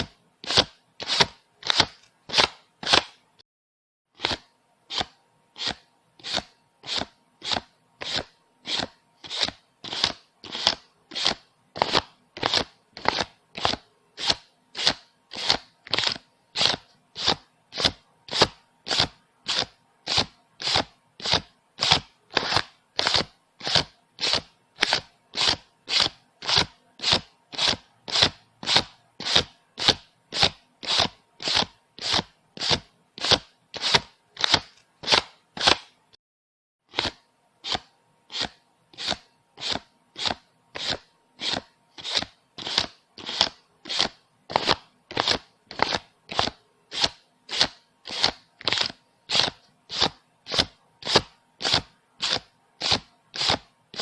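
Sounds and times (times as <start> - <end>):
banknotes being counted: 0.0 - 3.2, 4.2 - 36.0, 36.9 - 54.0.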